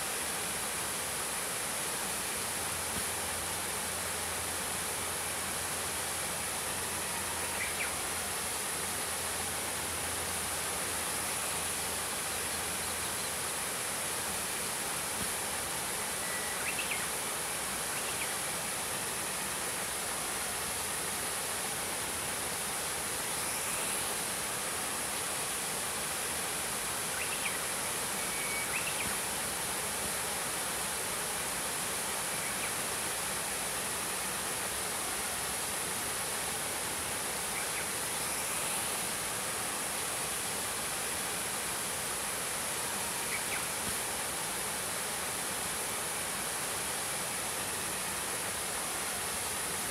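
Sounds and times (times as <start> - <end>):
high-pitched hiss: 0.0 - 49.9
waterfall splashing over rocks: 0.0 - 49.9.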